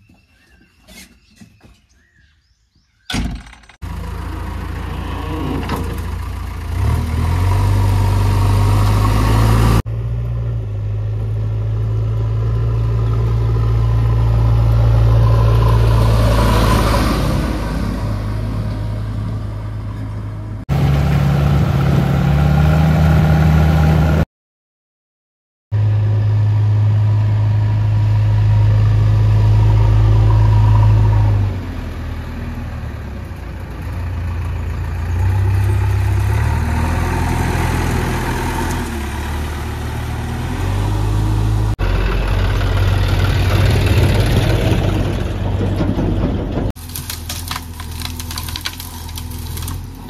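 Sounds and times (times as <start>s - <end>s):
diesel engine starting and running: 3.1s - 24.2s, 25.7s - 50.0s.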